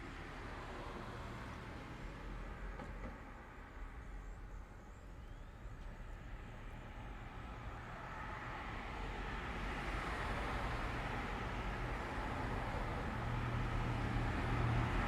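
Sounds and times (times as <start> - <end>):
car approaching: 0.0 - 15.0
low rumble of cars: 0.0 - 15.0.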